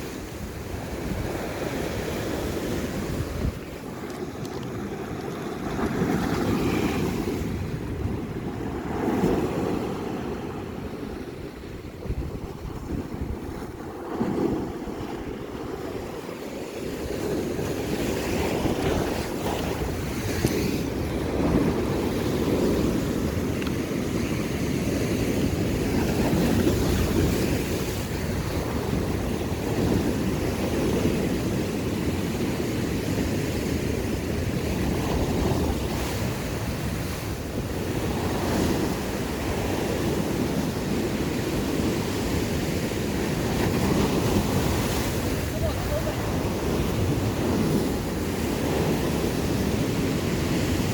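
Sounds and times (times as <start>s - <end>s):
sea waves washing on rocks: 0.0s - 50.9s
wind rumbling on microphone: 0.0s - 50.9s.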